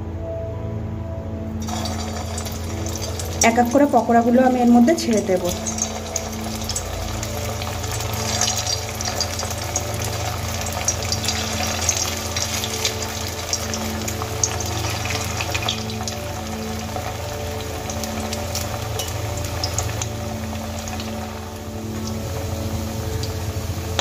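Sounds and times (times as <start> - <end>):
oil crackling and sizzling: 1.6 - 24.0.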